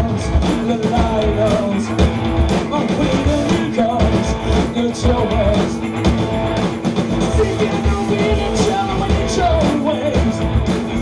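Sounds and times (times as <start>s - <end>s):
drums beating: 0.0s - 11.0s
rock band playing loudly: 0.0s - 11.0s.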